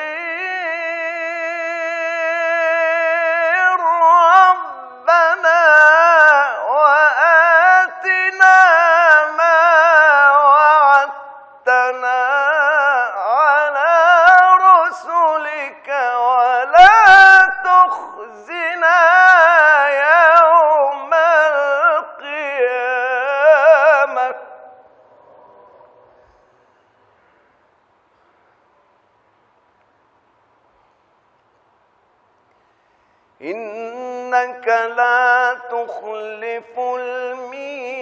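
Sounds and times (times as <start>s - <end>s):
man chanting melodic recitation: 0.0s - 26.8s, 33.4s - 38.0s.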